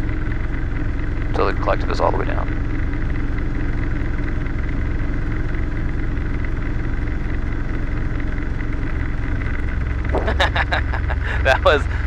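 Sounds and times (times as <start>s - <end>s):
helicopter engine and rotor running: 0.0s - 12.0s.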